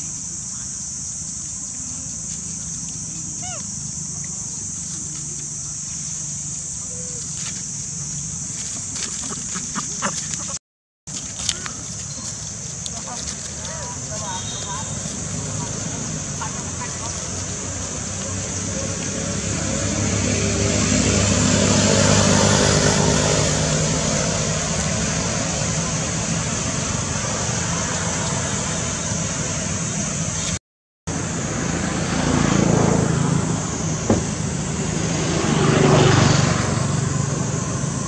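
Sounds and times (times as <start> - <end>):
vehicle engine humming: 0.0 - 38.0.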